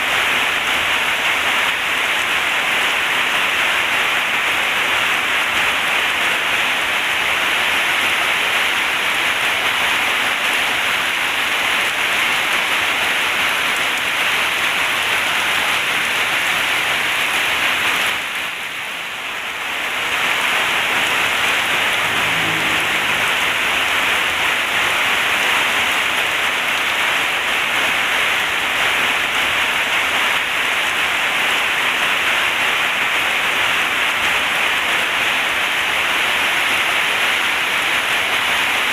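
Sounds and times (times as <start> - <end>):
heavy rain on metal roof: 0.0 - 38.9.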